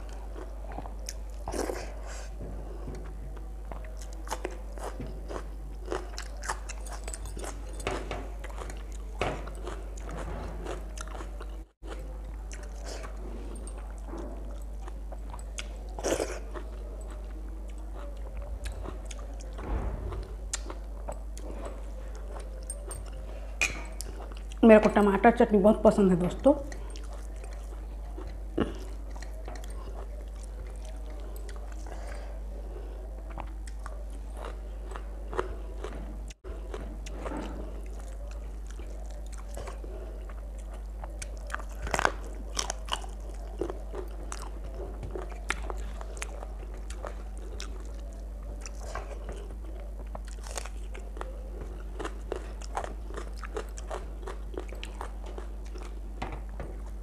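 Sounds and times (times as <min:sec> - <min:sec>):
chewing and crunching: 0:00.0 - 0:57.0
low electrical hum: 0:00.0 - 0:57.0.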